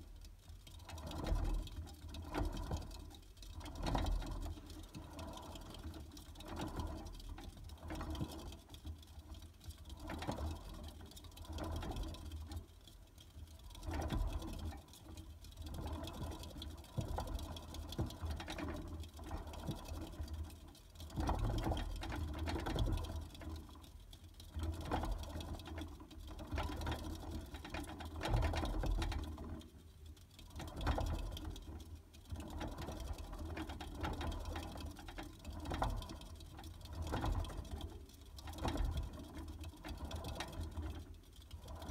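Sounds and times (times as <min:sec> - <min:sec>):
hamster wheel whirring rattle: 0:00.0 - 0:41.9.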